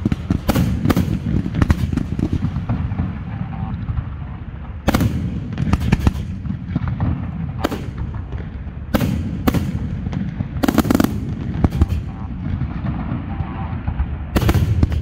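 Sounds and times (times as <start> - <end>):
fireworks rumbling: 0.0 - 15.0
loud firework bangs: 0.0 - 15.0.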